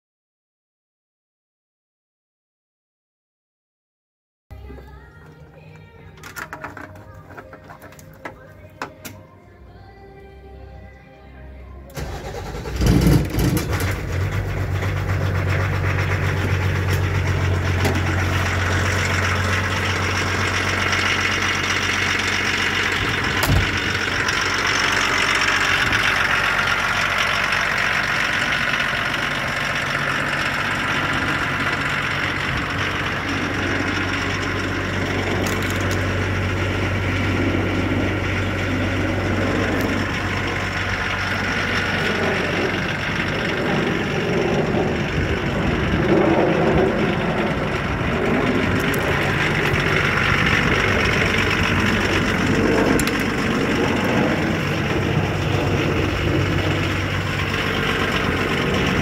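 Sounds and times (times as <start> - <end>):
engine starting and idling: 4.6 - 9.3, 11.9 - 59.0.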